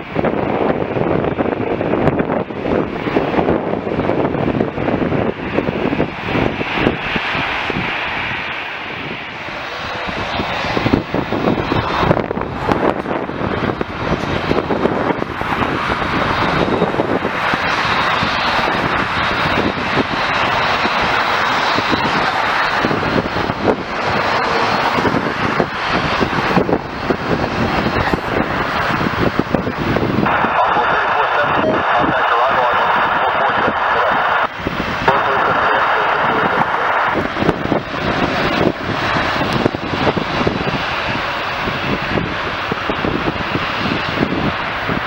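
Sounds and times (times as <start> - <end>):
jet engines passing: 0.0 - 45.0.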